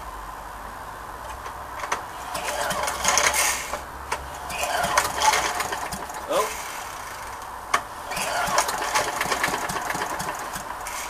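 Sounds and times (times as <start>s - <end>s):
lawnmower engine turning over: 1.2s - 11.0s
recoil starter rasping: 1.3s - 11.0s.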